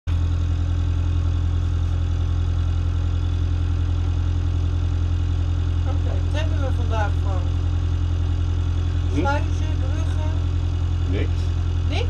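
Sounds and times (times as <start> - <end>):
motorboat engine droning: 0.1 - 12.0.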